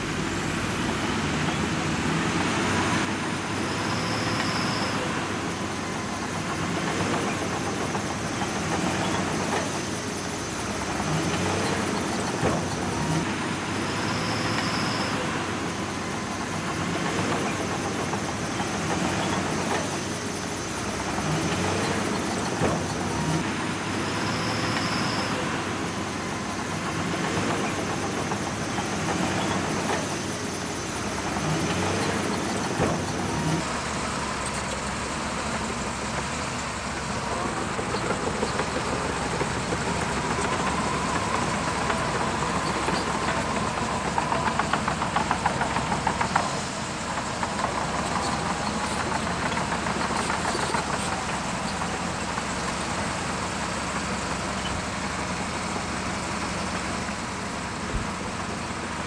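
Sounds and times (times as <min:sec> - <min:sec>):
bulldozer diesel engine running: 0:00.0 - 0:59.0
fast engine clatter: 0:00.0 - 0:59.0.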